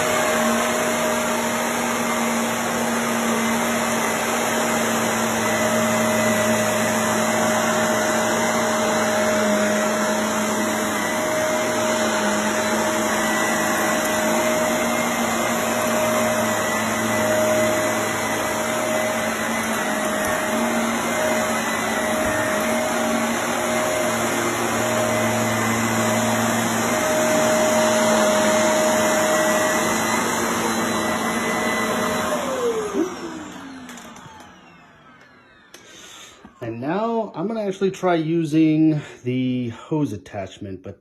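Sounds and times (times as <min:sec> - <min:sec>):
upright vacuum running on carpet: 0:00.0 - 0:37.5.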